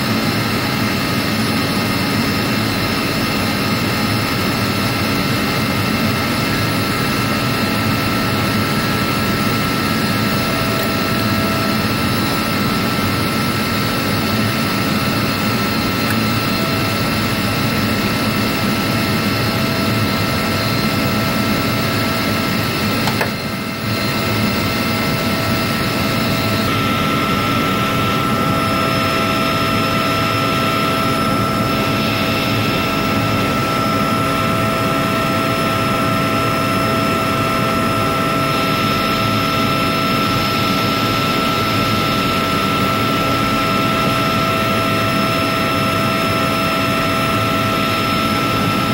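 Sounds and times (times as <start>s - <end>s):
floatplane engine droning: 0.0s - 48.9s.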